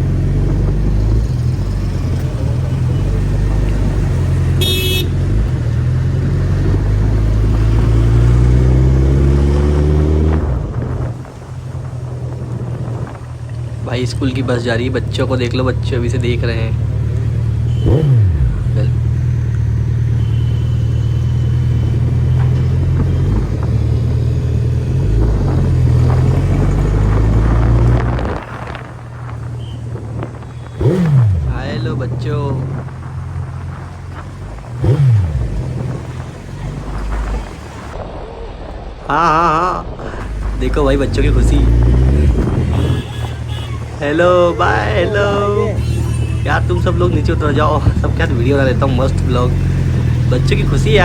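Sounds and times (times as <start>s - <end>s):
motorcycle engine revving: 0.0s - 38.0s, 40.2s - 51.0s.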